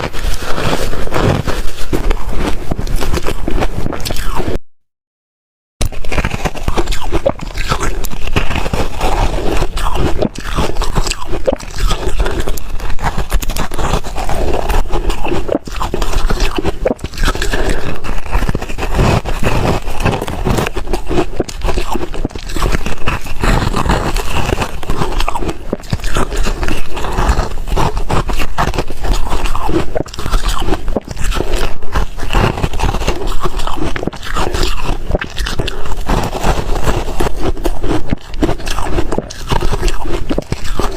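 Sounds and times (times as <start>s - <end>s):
ice crunching being chewed: 0.0s - 4.6s, 5.8s - 40.9s.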